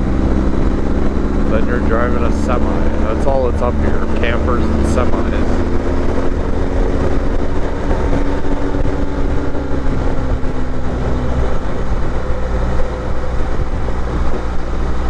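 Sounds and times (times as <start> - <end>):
motorcycle engine drone: 0.0 - 15.0
wind and road noise: 0.0 - 15.0.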